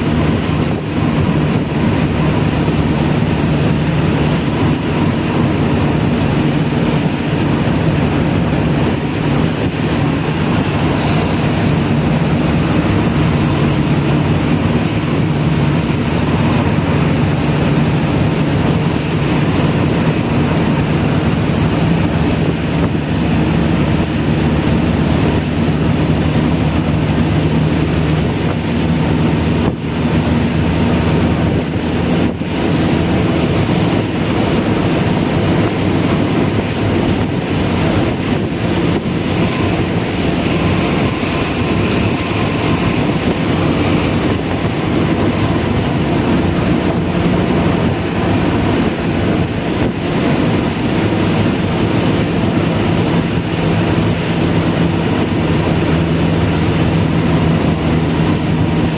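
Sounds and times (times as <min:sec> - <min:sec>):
rush of road noise: 0:00.0 - 0:58.9
vehicle engine hum: 0:00.0 - 0:58.9.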